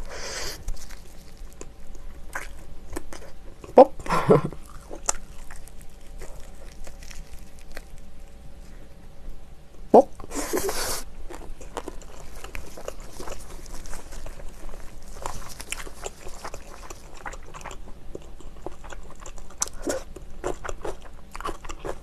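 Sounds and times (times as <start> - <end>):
biting and chewing crunchy food: 0.0 - 9.1, 10.2 - 22.0.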